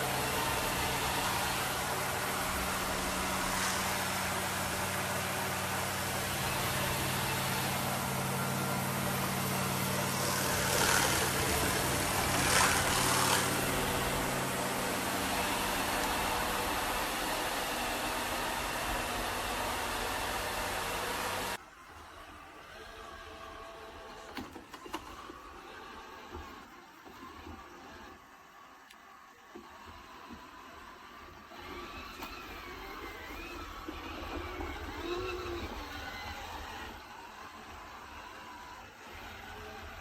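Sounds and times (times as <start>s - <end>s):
robot vacuum suction motor: 0.0s - 40.0s.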